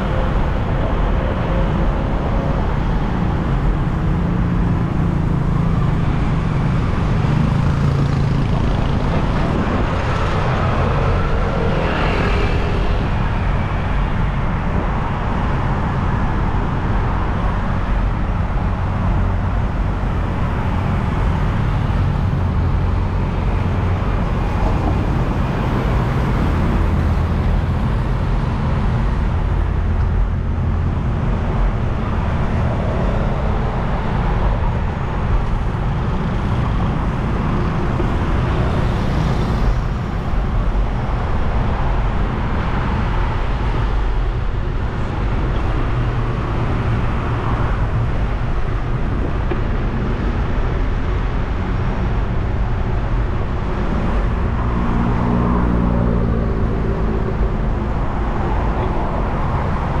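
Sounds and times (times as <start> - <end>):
road traffic rumble: 0.0 - 60.0
vehicle engine hum: 0.0 - 60.0.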